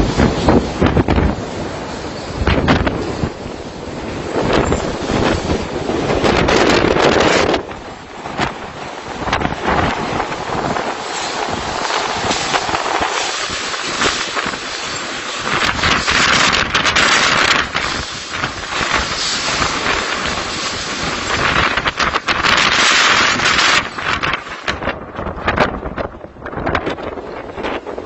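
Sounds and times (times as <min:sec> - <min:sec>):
strong wind gusting on microphone: 0:00.0 - 0:28.0.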